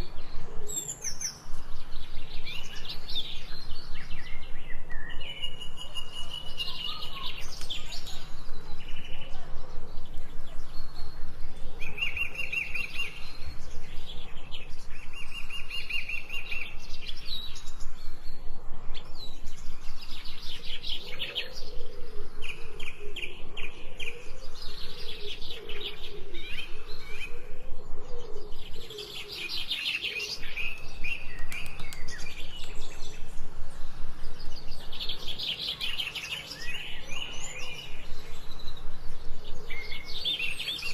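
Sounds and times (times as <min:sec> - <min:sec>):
birds singing and chirping: 0:00.0 - 0:40.9.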